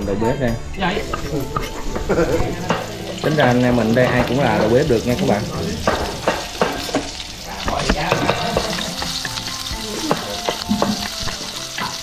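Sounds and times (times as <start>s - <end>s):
garlic sizzling in hot oil: 0.8s - 12.0s.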